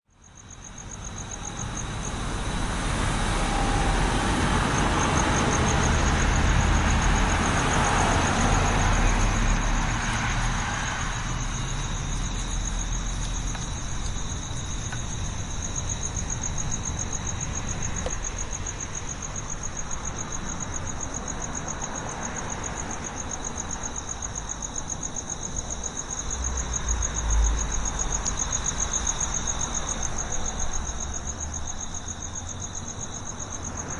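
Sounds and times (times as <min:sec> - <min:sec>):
insects trilling: 0:00.2 - 0:33.9
road traffic noise: 0:00.2 - 0:33.9.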